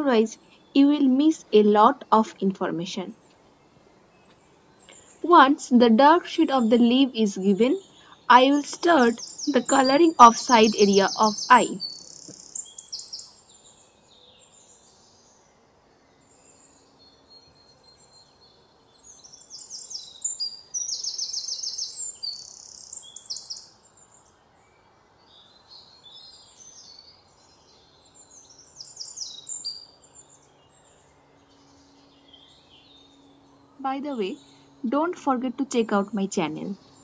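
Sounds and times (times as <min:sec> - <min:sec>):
small birds chirping: 0:04.1 - 0:15.4, 0:16.2 - 0:37.0.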